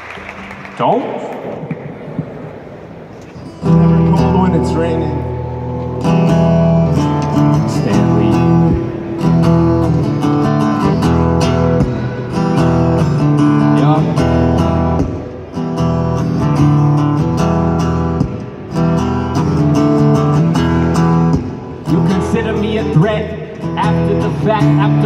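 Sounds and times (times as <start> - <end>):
acoustic guitar strumming: 2.5 - 25.0.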